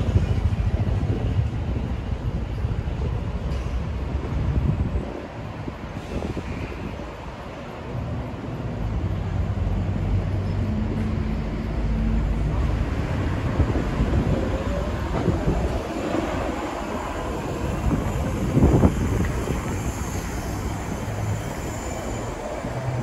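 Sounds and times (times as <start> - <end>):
passing traffic rumble: 0.0 - 23.0.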